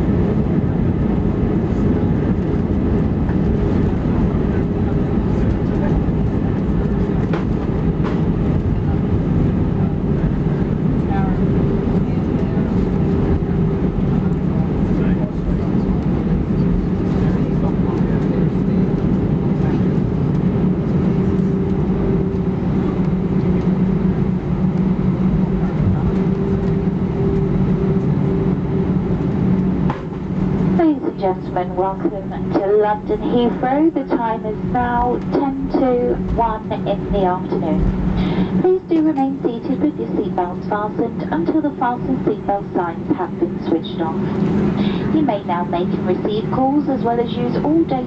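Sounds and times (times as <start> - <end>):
aircraft cabin rumble: 0.0 - 48.0.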